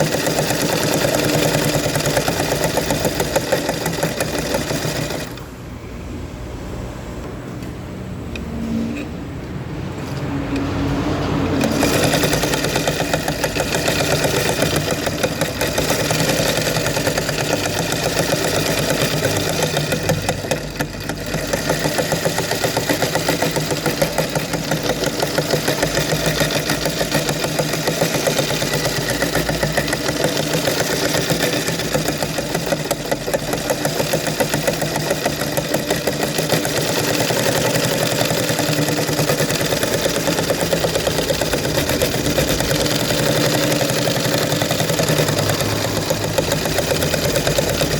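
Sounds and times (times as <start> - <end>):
sewing machine running fast: 0.0 - 5.5, 11.0 - 47.9.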